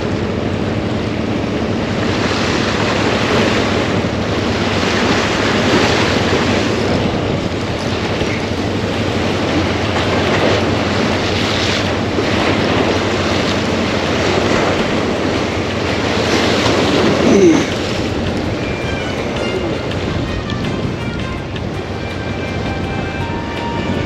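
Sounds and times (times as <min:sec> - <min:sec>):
surf: 0:00.0 - 0:24.0
wind buffeting microphone: 0:00.0 - 0:24.0.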